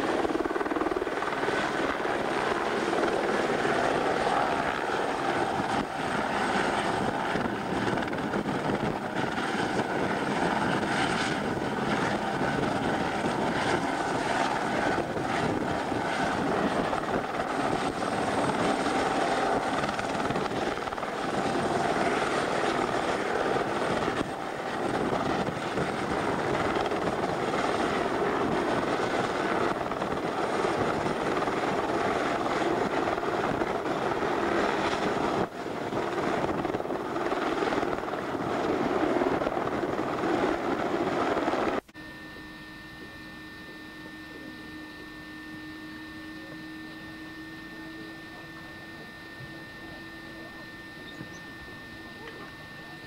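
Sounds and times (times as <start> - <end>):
thin high whine: 0.0 - 35.6, 41.7 - 53.0
helicopter hovering: 0.0 - 53.0.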